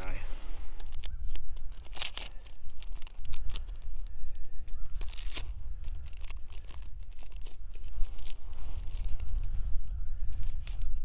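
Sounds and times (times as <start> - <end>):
plastic wrapping crinkling and tearing: 0.8 - 9.6.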